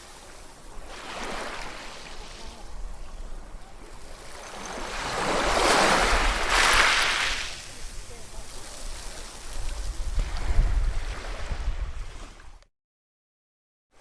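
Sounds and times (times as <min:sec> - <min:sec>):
ocean waves washing in: 0:00.0 - 0:12.4.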